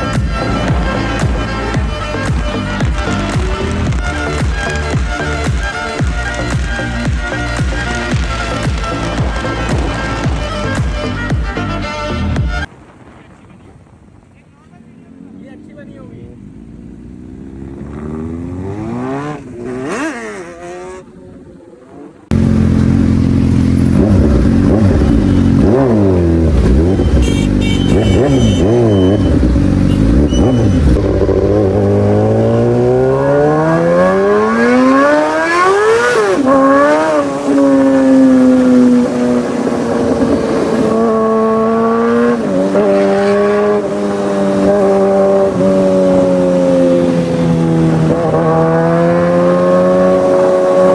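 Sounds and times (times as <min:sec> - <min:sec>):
motorbike engine revving: 0:00.0 - 0:12.7, 0:15.1 - 0:50.9.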